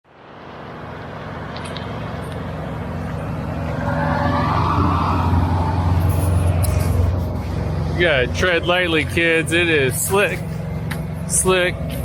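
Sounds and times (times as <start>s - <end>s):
road noise: 0.0s - 12.0s
diesel truck engine running: 0.1s - 12.0s.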